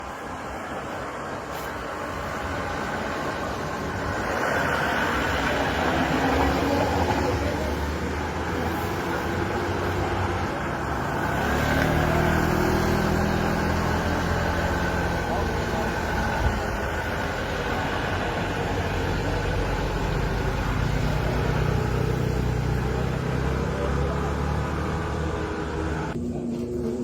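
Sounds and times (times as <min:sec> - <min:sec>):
motorcycle engines climbing uphill: 0:01.1 - 0:27.0.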